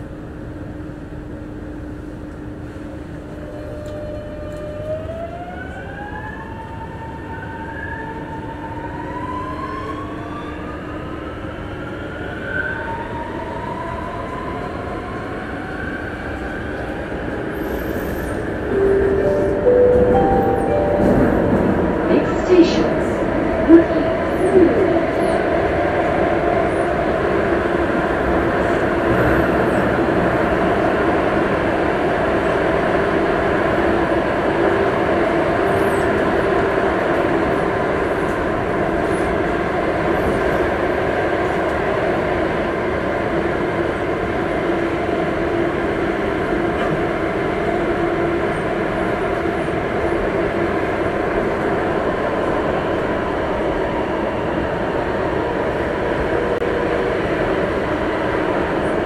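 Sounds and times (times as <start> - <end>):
train wheels rumbling on track: 11.6 - 59.0.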